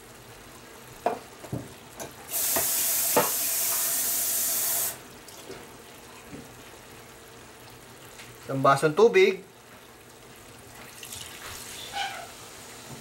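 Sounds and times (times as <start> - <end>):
kitchen tap running water: 0.5 - 13.0.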